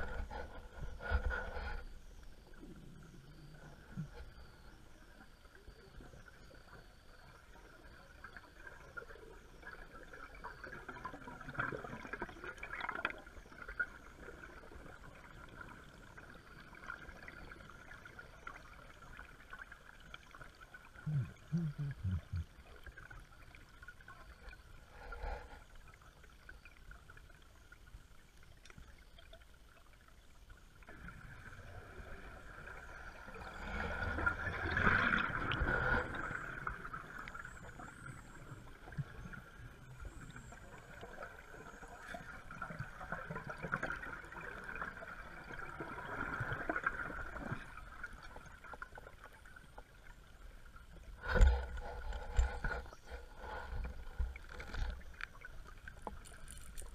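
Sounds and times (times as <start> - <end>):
underwater bubbles gurgling: 0.0 - 56.9.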